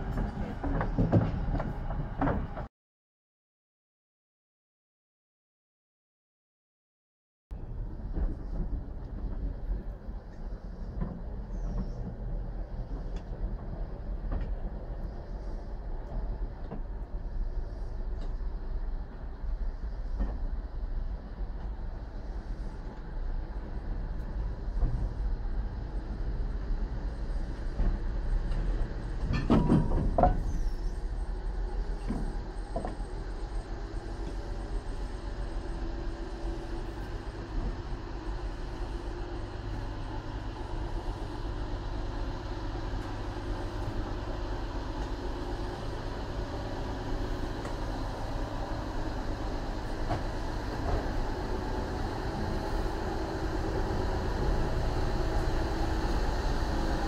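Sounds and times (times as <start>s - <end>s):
train wheels rumbling on rail: 0.0s - 2.7s, 7.5s - 57.0s.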